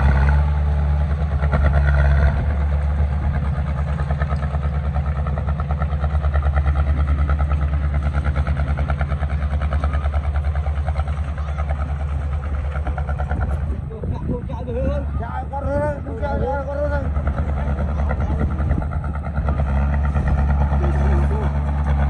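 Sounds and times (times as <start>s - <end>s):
diesel engine throbbing: 0.0s - 22.0s.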